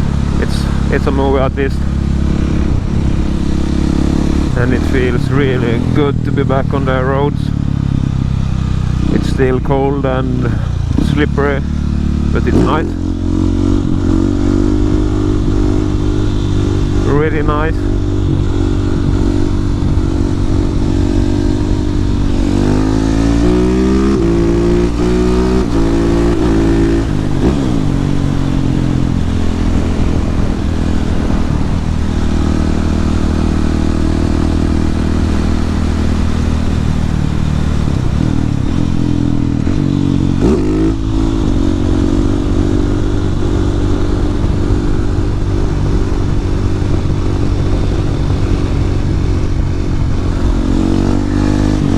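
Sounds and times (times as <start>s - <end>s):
wind noise: 0.0s - 6.5s, 7.1s - 51.9s
motorcycle engine revving: 0.0s - 51.9s.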